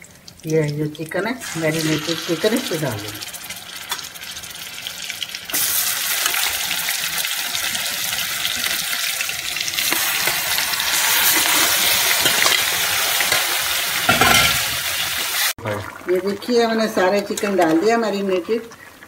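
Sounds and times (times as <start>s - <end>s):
chicken sizzling in a wok: 1.4s - 17.4s.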